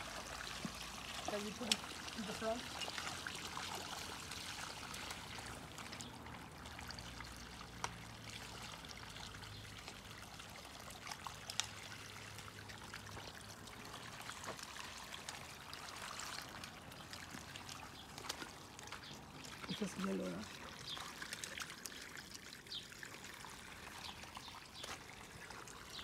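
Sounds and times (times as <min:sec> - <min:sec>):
water trickling from a hose: 0:00.0 - 0:26.0.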